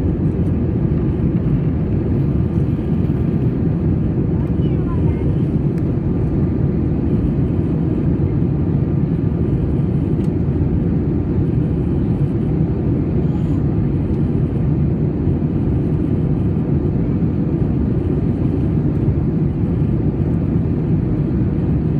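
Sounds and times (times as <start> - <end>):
jet engine and airflow rumble: 0.0 - 21.9.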